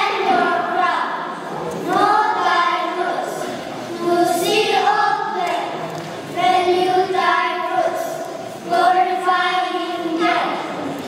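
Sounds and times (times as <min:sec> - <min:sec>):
children chanting together: 0:00.0 - 0:11.0.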